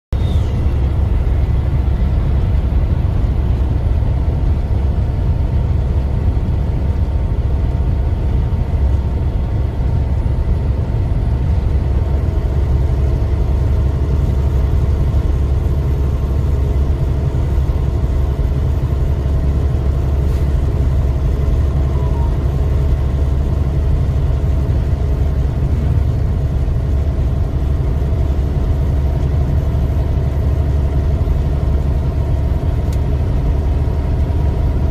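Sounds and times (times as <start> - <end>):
truck engine rumbling: 0.1 - 34.9.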